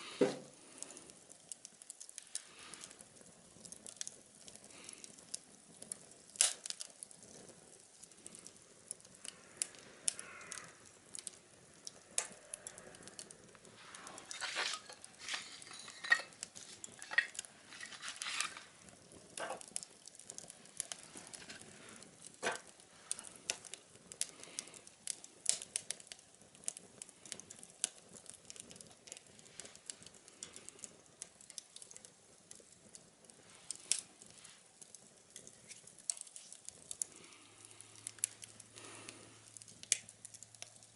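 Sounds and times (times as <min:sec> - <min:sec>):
faint hiss: 0:00.0 - 0:40.9
wood fire crackling in stove: 0:00.0 - 0:40.9.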